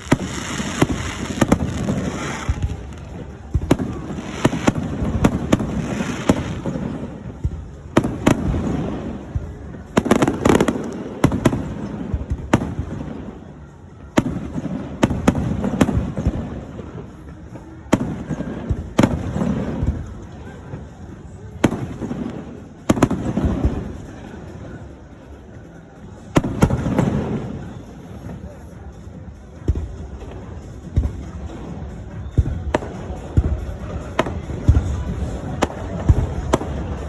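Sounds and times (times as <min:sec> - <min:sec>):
fireworks bangs and pops: 0:00.0 - 0:13.4, 0:14.1 - 0:24.8, 0:26.2 - 0:37.0.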